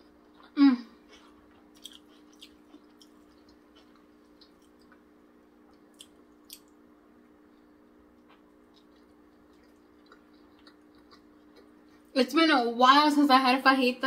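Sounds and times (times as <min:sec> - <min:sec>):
person chewing taco: 0:00.0 - 0:12.1
faint steady hum: 0:00.0 - 0:14.0.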